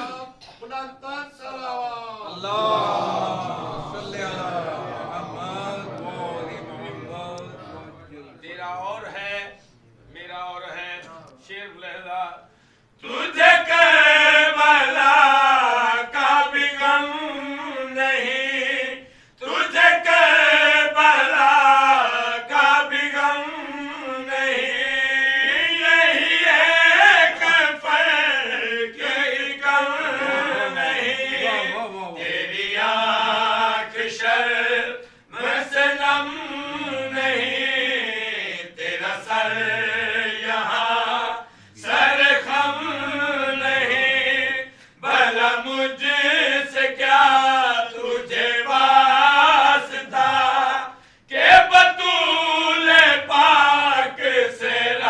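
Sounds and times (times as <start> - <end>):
man chanting into a microphone: 7.2 - 55.0.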